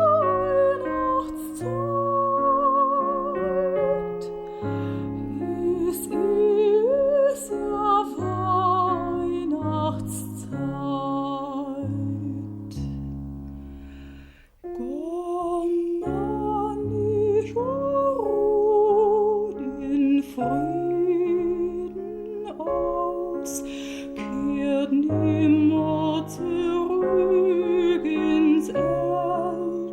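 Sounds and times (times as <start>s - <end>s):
soprano singing: 0.0s - 13.7s, 14.6s - 29.9s.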